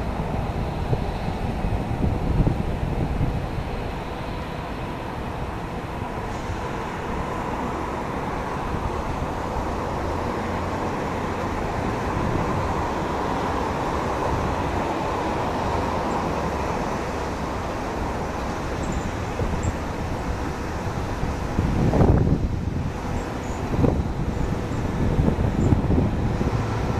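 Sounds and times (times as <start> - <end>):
jet engines rumbling and whining: 0.0 - 26.9.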